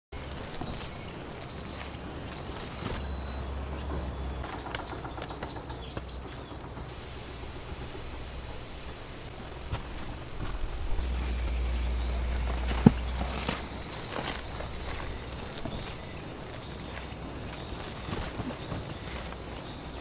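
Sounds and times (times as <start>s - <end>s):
insects chirping: 0.2s - 20.0s
low outdoor rumble: 0.2s - 20.0s.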